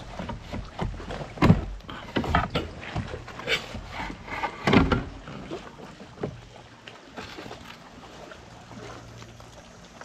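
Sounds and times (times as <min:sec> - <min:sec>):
knocks and thumps in a kayak: 0:00.0 - 0:10.0.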